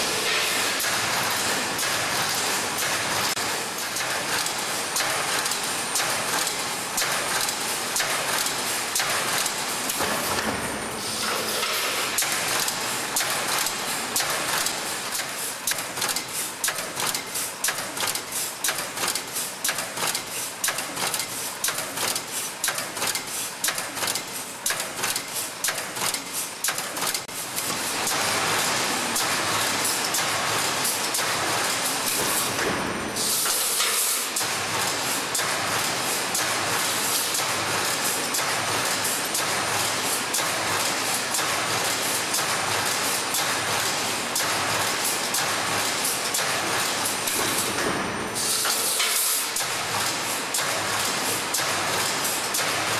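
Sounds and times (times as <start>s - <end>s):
welding machine clacking: 0.0s - 52.9s.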